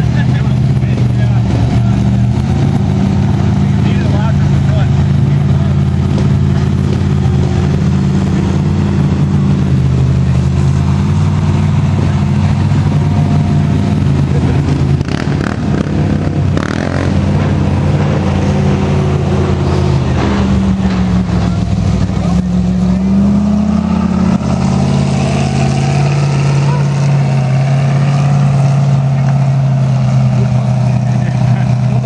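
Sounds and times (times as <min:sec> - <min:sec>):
truck engine droning: 0:00.0 - 0:32.0.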